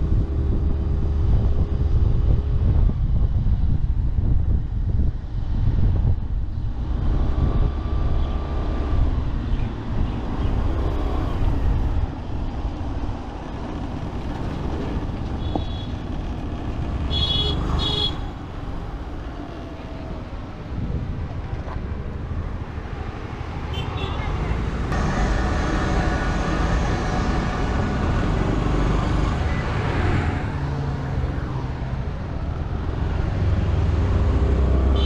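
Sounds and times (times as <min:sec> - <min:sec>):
wind rushing over microphone: 0:00.0 - 0:17.1, 0:18.2 - 0:23.7, 0:24.3 - 0:35.0.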